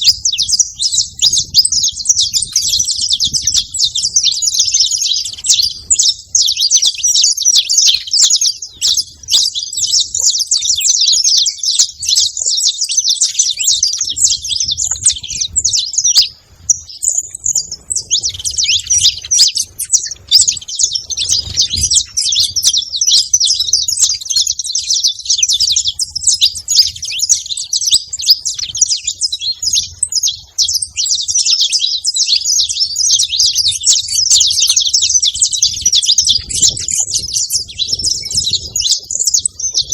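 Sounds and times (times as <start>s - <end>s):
finches chattering: 0.0s - 39.9s.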